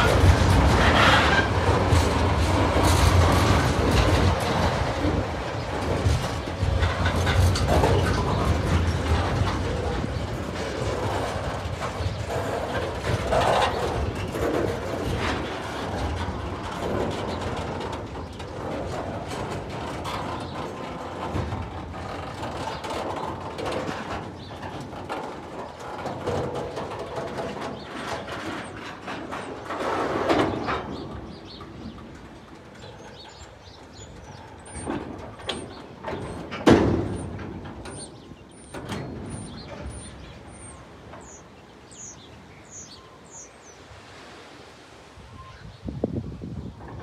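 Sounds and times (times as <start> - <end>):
freight wagons clanking: 0.0 - 44.2.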